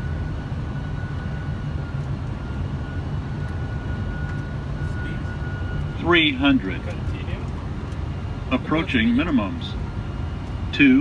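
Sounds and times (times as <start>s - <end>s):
airflow and engines rumbling: 0.0s - 11.0s.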